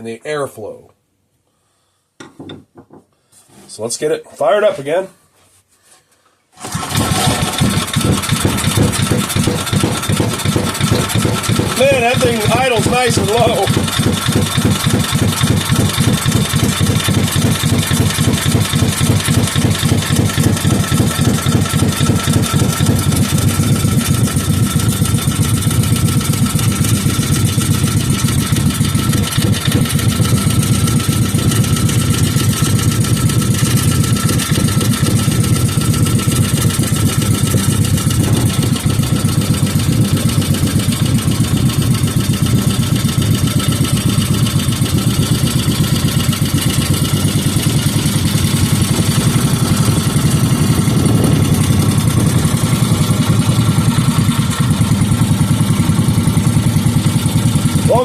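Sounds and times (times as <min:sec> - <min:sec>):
small engine idling: 0:06.6 - 0:58.0.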